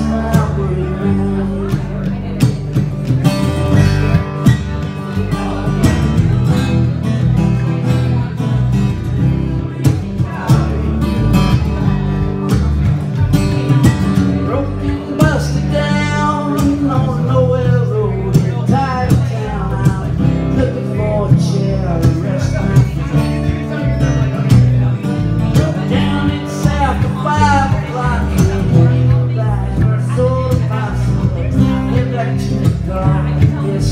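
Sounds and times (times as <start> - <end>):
man singing: 0.0 - 2.9, 3.7 - 33.9
acoustic guitar strumming: 0.0 - 33.9.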